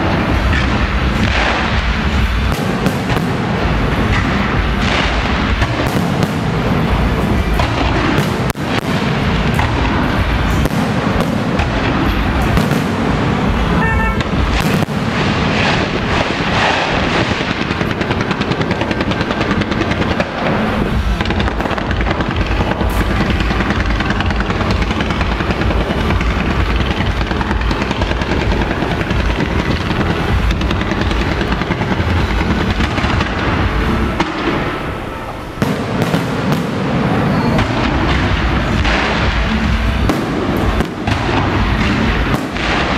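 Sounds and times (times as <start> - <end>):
fireworks bursting and crackling: 0.0 - 42.9.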